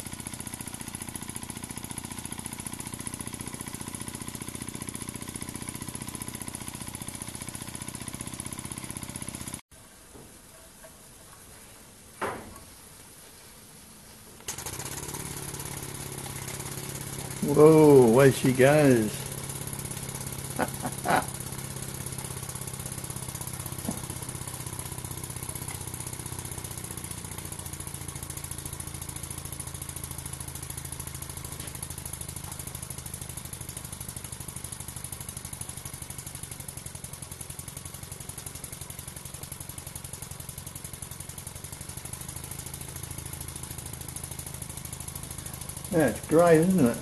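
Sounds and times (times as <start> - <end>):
steam engine chuffing: 0.0 - 9.6, 14.5 - 47.0.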